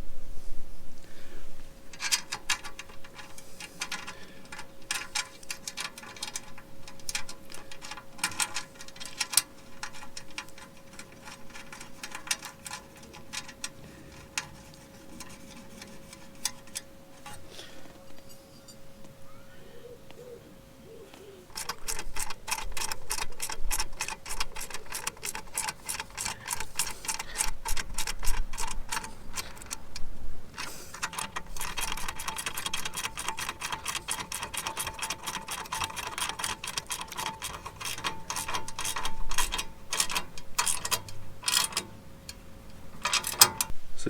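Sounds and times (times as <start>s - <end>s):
faint steady hum: 0.0s - 44.0s
ratchet spanner clicking: 1.9s - 17.4s, 21.5s - 43.7s.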